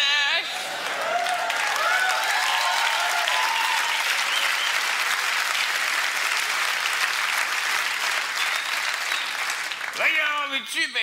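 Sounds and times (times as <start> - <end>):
audience applauding: 0.5 - 10.6.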